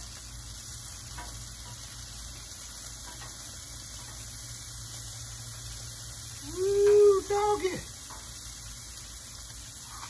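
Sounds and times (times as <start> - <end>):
meat sizzling on griddle: 0.0 - 10.0.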